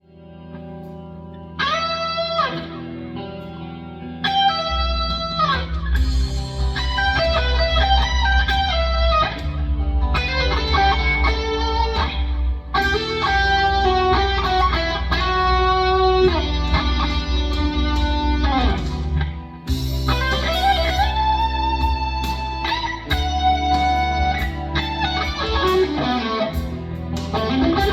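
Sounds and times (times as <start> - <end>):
electric guitar lead with bends: 0.0 - 27.9
low bass backing: 0.4 - 27.9.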